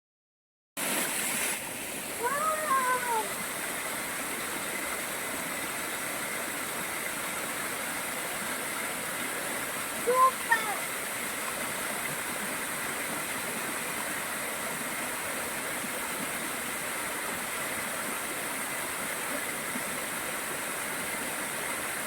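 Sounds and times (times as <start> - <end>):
small waterfall rushing: 0.8 - 22.0.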